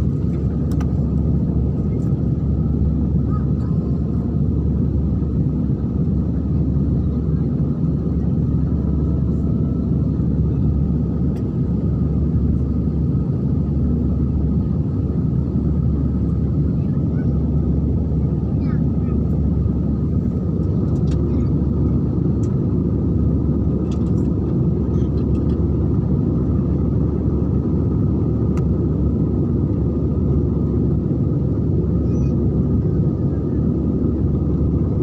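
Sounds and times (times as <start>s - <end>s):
airplane engine rumble: 0.0s - 35.0s.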